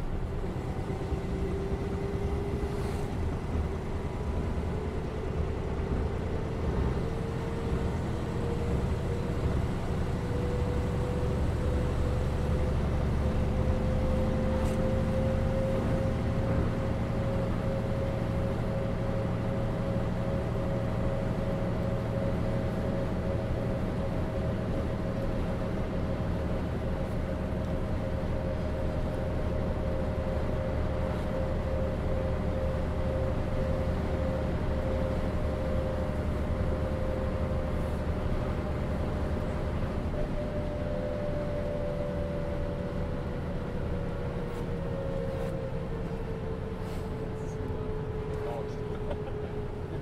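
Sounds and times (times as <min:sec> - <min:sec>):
bus engine rumble and whine: 0:00.0 - 0:50.0.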